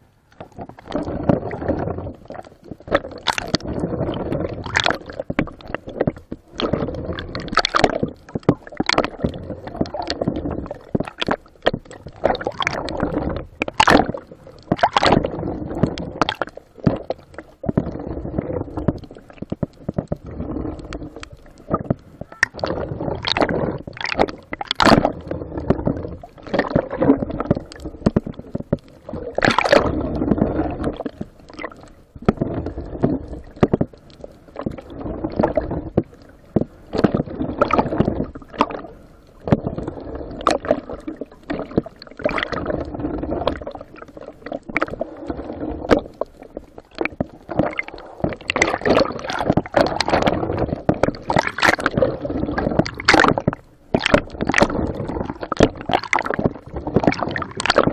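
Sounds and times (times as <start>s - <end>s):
water sloshing and gurgling: 0.0s - 57.9s.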